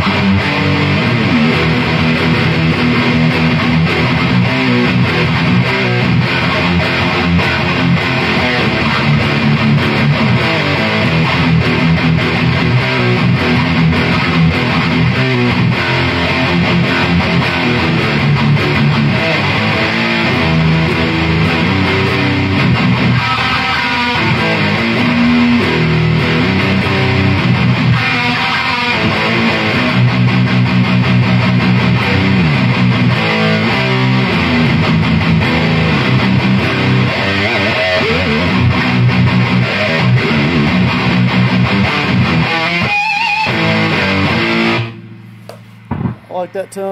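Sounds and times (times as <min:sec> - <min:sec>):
electric guitar riffs: 0:00.0 - 0:46.9.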